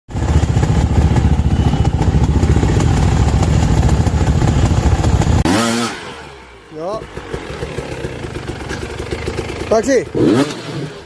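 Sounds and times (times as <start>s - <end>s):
dirt bike engine running: 0.1s - 11.0s.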